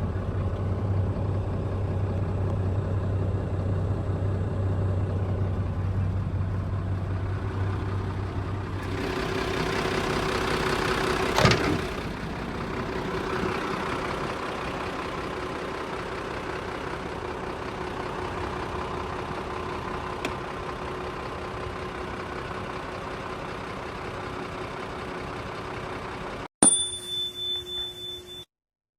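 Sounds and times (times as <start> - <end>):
diesel truck engine idling: 0.0 - 26.5.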